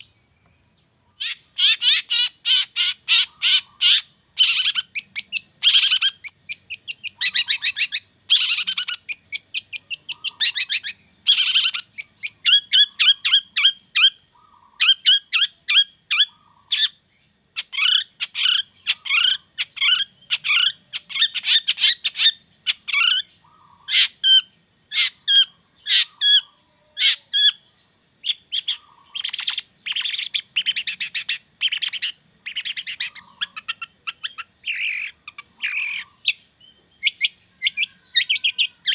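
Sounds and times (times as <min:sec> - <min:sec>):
shrike singing: 0:00.0 - 0:17.0, 0:17.6 - 0:38.9.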